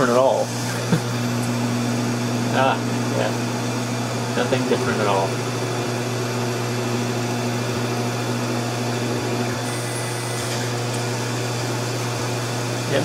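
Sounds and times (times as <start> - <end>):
end mill cutting foam: 0.0 - 13.0
spindle motor humming: 0.0 - 13.0.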